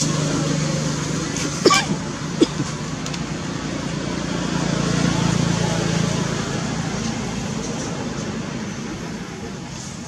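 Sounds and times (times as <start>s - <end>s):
road noise: 0.0s - 10.0s
vehicle engine hum: 0.0s - 10.0s.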